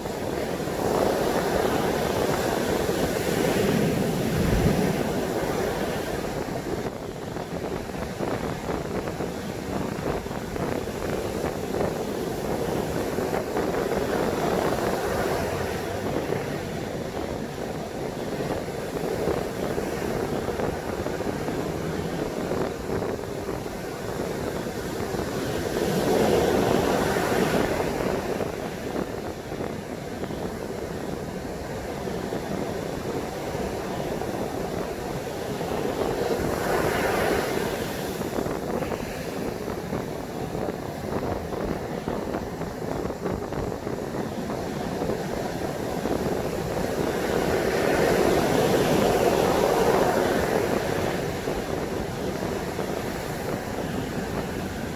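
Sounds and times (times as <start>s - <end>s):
surf breaking on beach: 0.0s - 54.9s
wind rumbling on microphone: 0.0s - 54.9s.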